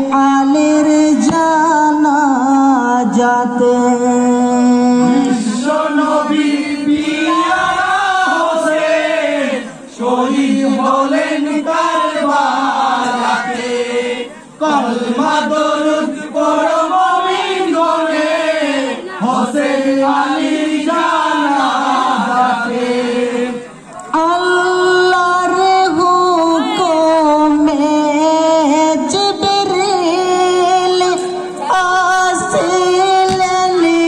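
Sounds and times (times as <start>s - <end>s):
men chanting a lament in unison: 0.0s - 34.0s.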